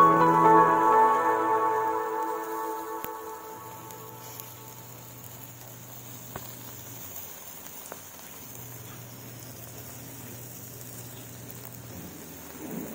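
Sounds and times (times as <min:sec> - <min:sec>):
chicken sizzling on a grill: 0:00.0 - 0:12.9.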